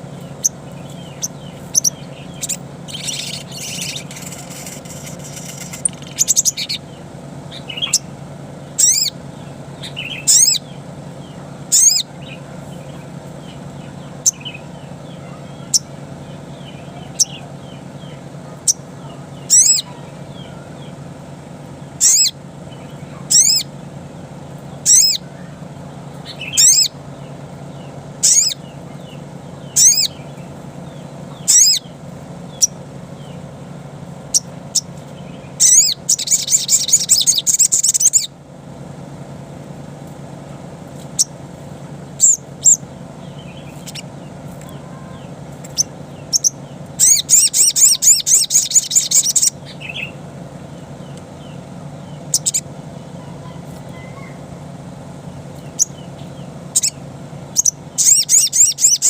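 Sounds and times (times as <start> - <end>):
bird chirping and trilling: 0.0 - 21.0, 21.7 - 38.4, 41.1 - 41.4, 42.0 - 54.6, 55.2 - 59.0
steady low hum: 0.0 - 59.0.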